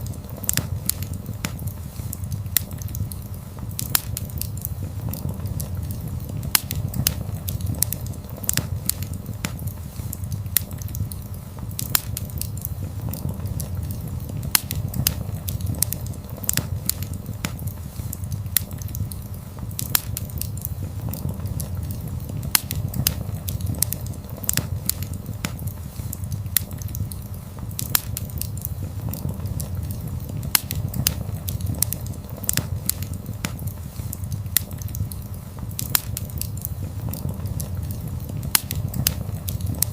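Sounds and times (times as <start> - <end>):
fire crackles and pops: 0.0 - 39.9
wood fire rumbling: 0.0 - 39.9.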